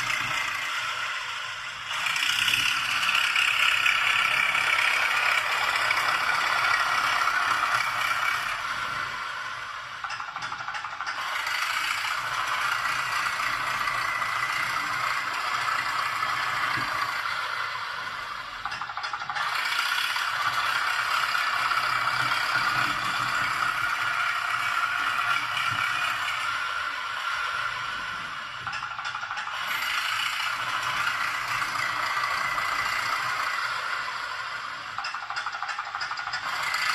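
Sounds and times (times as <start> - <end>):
toy tractor mechanical rattle: 0.0 - 36.9.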